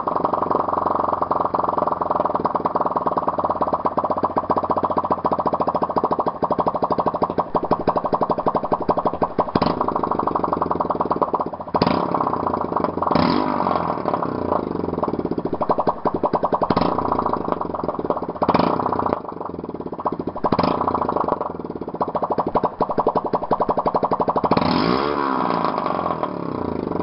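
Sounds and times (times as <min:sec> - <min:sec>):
unsilenced motorbike engine revving: 0:00.0 - 0:27.0.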